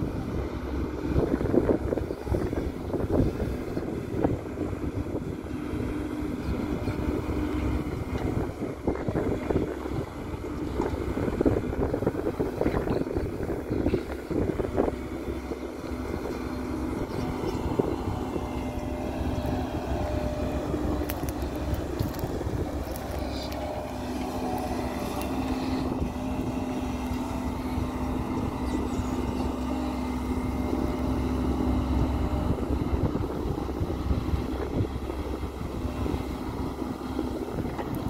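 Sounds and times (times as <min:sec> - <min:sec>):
excavator diesel engines working: 0:00.0 - 0:38.0.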